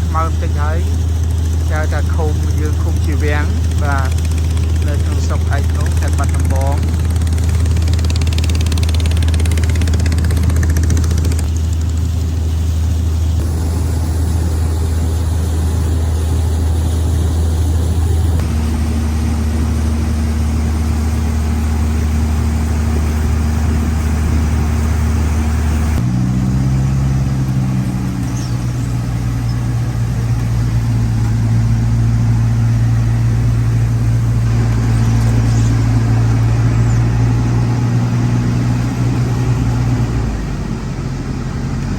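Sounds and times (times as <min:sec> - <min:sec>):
boat engine droning: 0:00.0 - 0:41.9.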